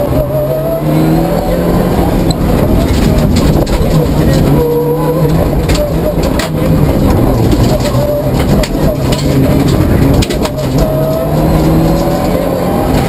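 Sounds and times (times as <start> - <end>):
car engine revving: 0.0 - 13.0
road and cabin noise: 0.0 - 13.0.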